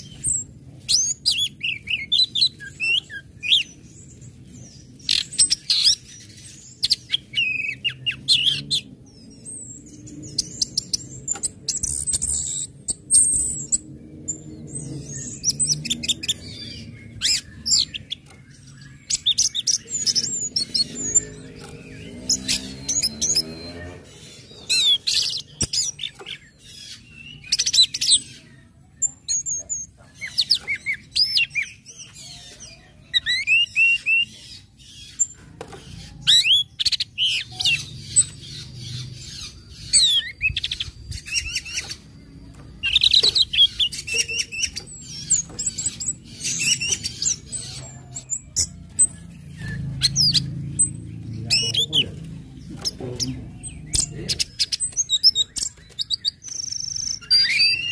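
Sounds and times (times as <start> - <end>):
bird singing chirps and whistles: 0.0 - 34.3, 36.1 - 52.1, 52.8 - 57.9.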